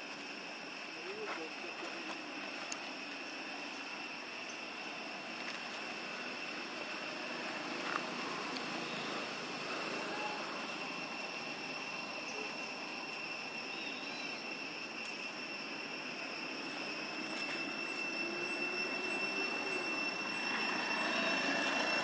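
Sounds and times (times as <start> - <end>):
high-pitched buzzing tone: 1.8 - 22.0.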